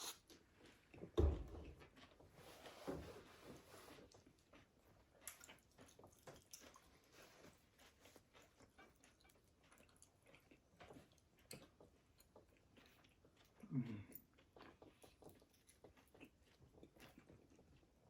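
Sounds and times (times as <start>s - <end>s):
faint chewing: 0.0s - 2.8s, 3.8s - 18.0s.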